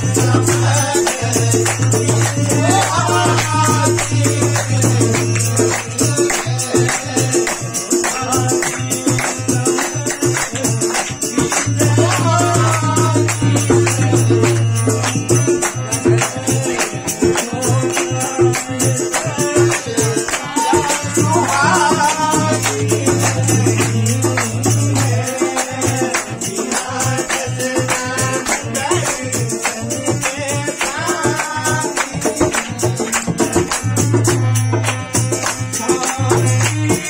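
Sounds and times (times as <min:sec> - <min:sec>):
dholak drum beat: 0:00.0 - 0:37.0
jingling percussion: 0:00.0 - 0:37.0.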